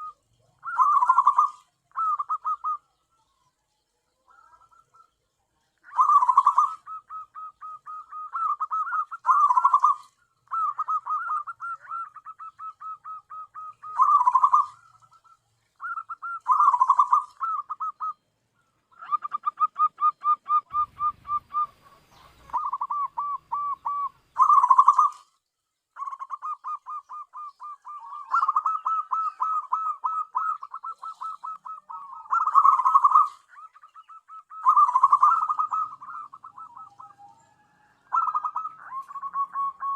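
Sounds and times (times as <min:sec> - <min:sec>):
dove cooing: 0:00.0 - 0:03.4, 0:04.1 - 0:25.4, 0:26.0 - 0:39.9.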